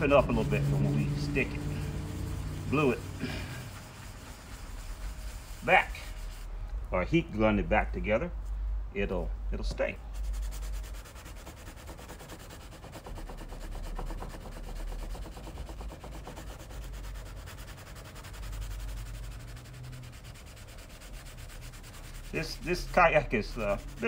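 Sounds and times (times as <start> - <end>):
sanding pad scrubbing plastic: 0.0 - 6.5, 10.2 - 24.0.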